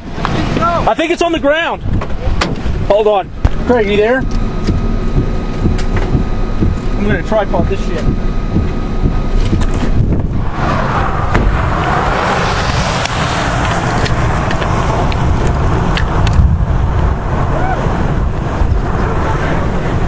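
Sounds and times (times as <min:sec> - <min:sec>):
broad rushing sound: 0:00.0 - 0:20.0
wind buffeting microphone: 0:00.0 - 0:20.0.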